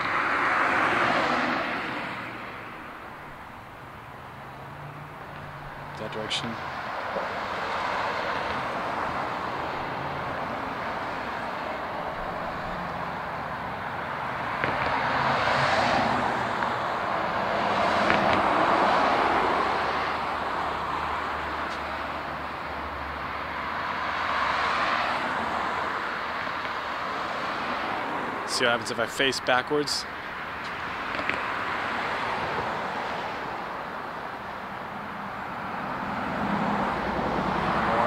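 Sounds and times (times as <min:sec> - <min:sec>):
cars passing: 0:00.0 - 0:38.0
steady traffic hum: 0:00.0 - 0:38.0.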